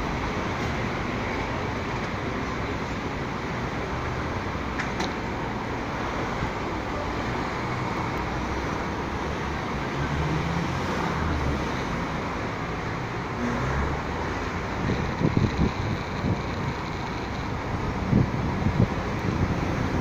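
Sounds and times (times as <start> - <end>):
street traffic hum: 0.0 - 20.0.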